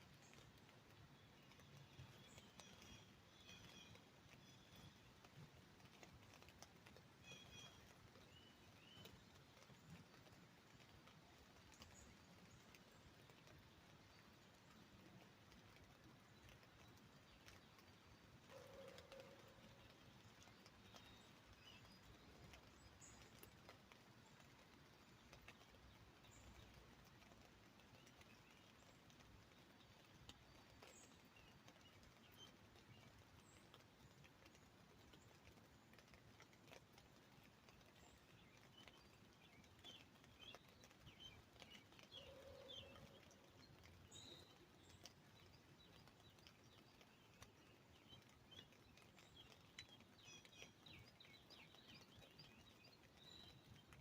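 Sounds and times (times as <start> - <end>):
birds chirping: 0.0 - 35.7, 36.9 - 54.0
rain pattering on an umbrella: 0.0 - 54.0.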